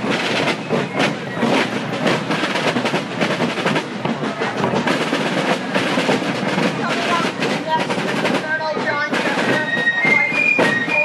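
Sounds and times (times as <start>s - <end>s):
snare and bass drums cadence: 0.0s - 11.0s.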